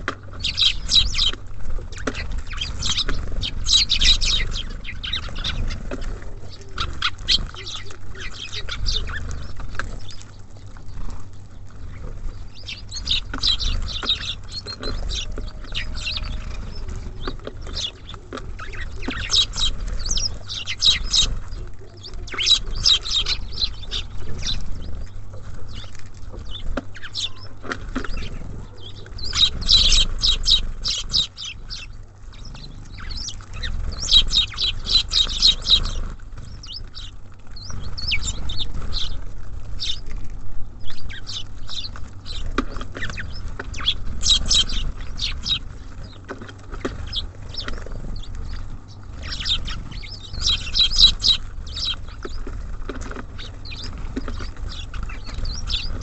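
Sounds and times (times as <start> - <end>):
small birds chirping: 0.0 - 56.0
steady low rumble: 0.0 - 56.0.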